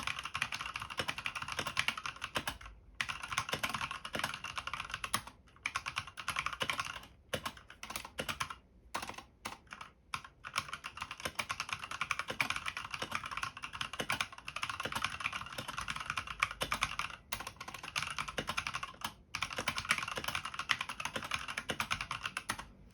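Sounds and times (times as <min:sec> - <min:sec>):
mechanical keyboard typing: 0:00.0 - 0:22.8.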